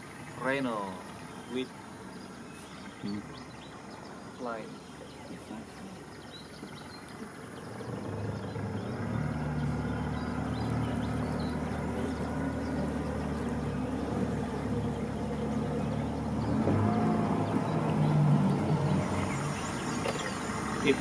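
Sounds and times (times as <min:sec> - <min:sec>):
outboard motor humming: 0:00.0 - 0:21.0.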